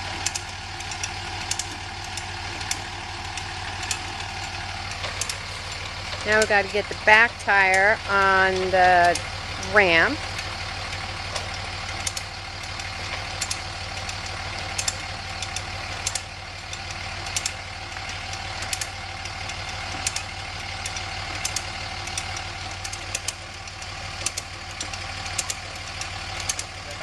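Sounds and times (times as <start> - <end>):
engine idling: 0.0 - 27.0
sharp clicks: 0.1 - 26.8.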